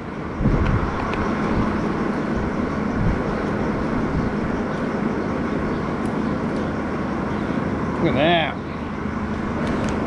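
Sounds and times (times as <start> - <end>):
skid steer engine running: 0.0 - 10.0.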